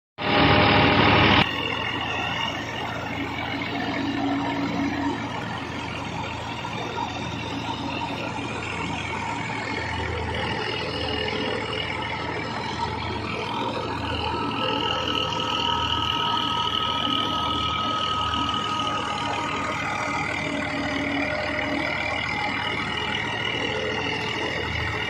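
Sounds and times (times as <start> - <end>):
loud burst of noise: 0.2 - 25.0
thresher whirring: 0.2 - 25.0
tractor engine hum: 0.2 - 25.0.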